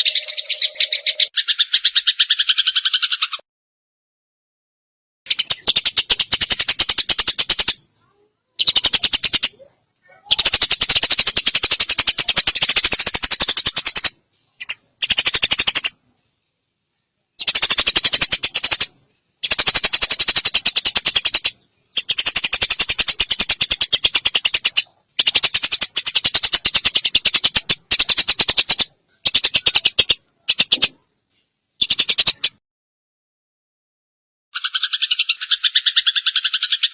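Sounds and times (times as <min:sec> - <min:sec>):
sparrows chattering: 0:00.0 - 0:03.4, 0:05.3 - 0:16.0, 0:17.4 - 0:31.0, 0:31.8 - 0:32.6, 0:34.6 - 0:36.9.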